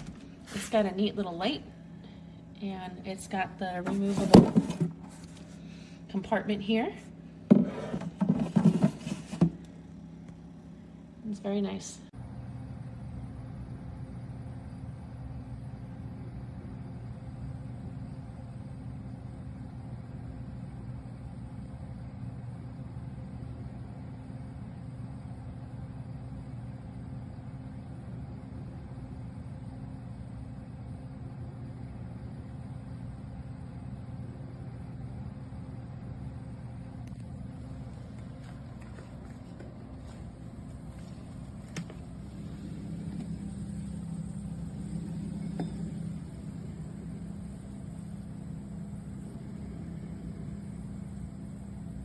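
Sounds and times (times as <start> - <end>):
fridge compressor humming: 0.0 - 52.0.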